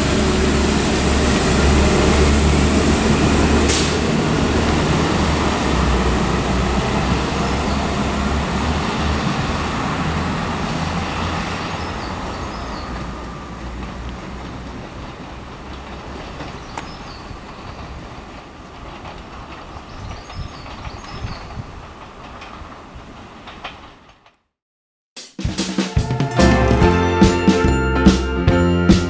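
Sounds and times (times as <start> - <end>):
train engine hum: 0.0 - 24.0, 25.9 - 29.0
train wheel noise: 0.0 - 24.4, 25.8 - 29.0.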